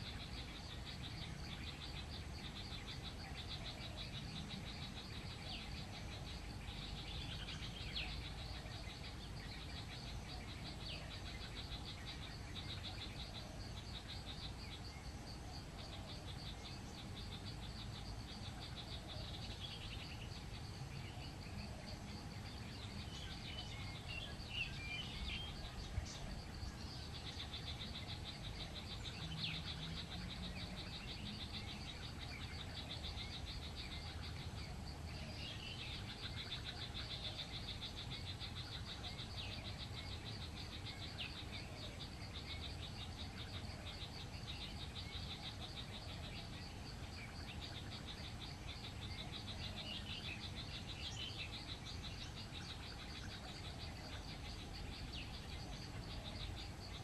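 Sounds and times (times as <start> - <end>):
bird chirps: 0.0 - 57.0
insect or frog chorus trill: 0.0 - 57.0.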